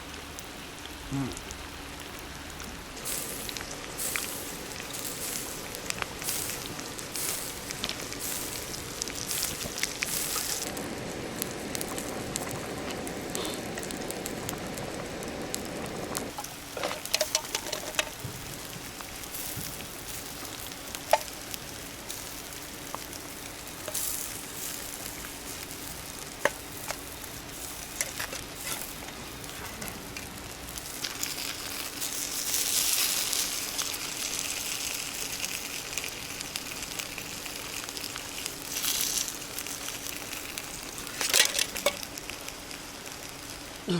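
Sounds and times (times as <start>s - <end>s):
fire popping: 0.0s - 43.9s
food sizzling over fire: 0.0s - 43.9s.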